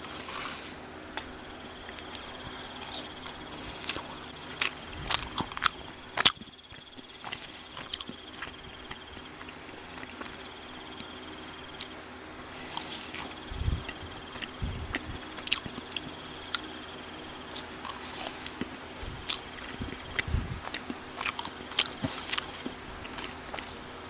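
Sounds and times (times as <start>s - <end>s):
crunching and chewing food: 0.0s - 24.0s.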